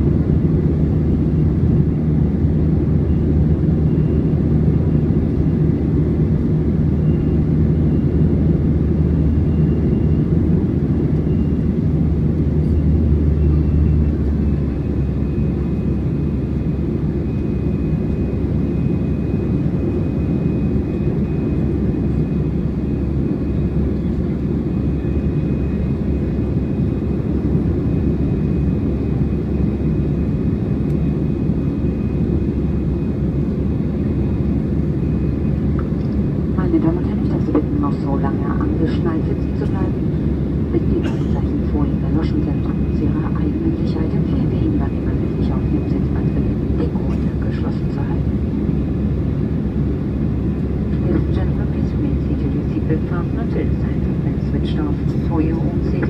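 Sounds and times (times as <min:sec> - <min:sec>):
airflow rushing in cabin: 0:00.0 - 0:56.0
jet engines droning: 0:00.0 - 0:56.0.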